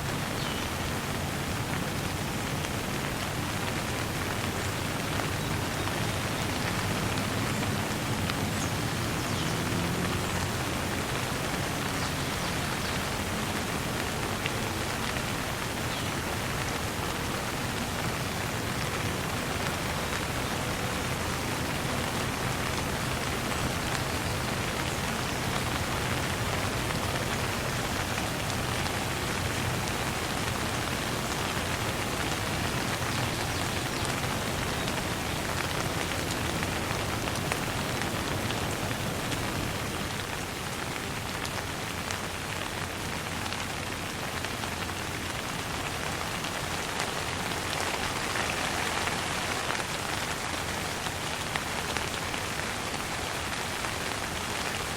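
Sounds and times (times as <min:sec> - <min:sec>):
light rain falling: 0:00.0 - 0:54.9.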